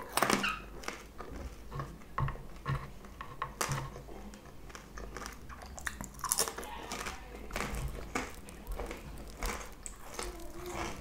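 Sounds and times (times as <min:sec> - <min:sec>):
chewing french fries: 0:00.0 - 0:02.0, 0:03.6 - 0:11.0.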